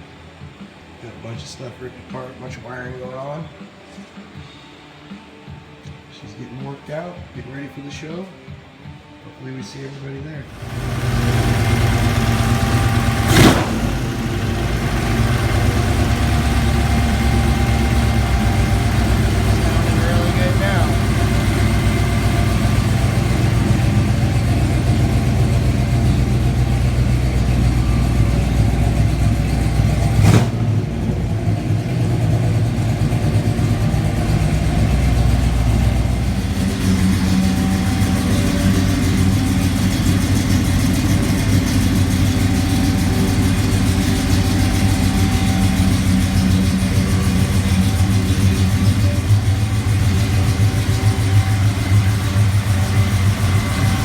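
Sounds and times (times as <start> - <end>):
car engine idling and revving: 10.5 - 54.0.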